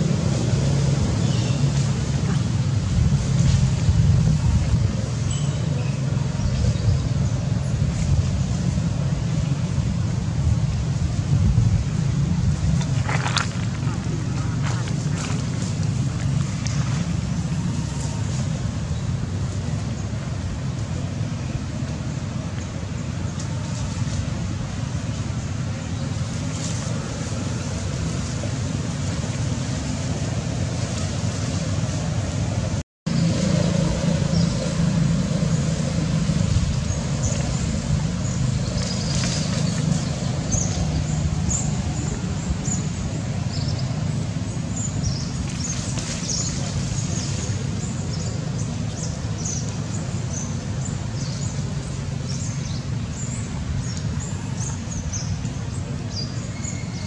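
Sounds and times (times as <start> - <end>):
low rumbling background noise: 0.0 - 57.0.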